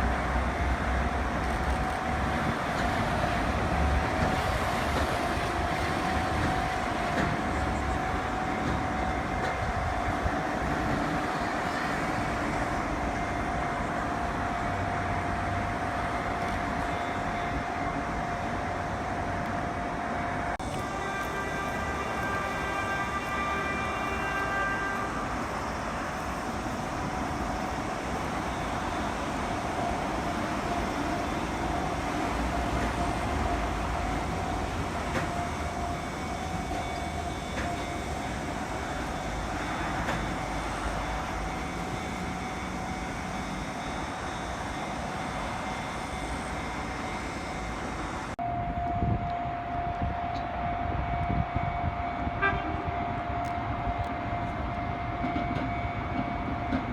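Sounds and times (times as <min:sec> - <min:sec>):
electronic warning alarm tone: 0:00.2 - 0:56.9.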